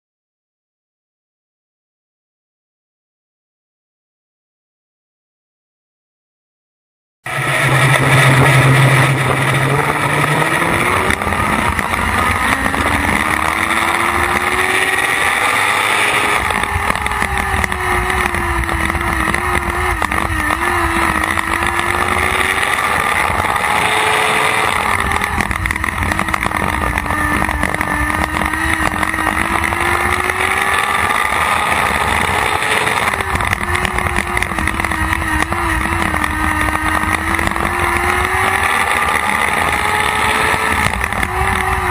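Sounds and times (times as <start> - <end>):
race car engine: 7.3 - 41.9.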